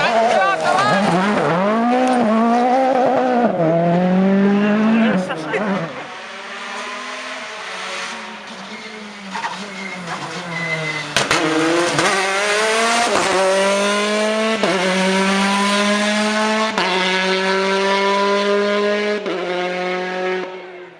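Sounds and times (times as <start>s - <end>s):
rally car engine revving: 0.0s - 20.9s.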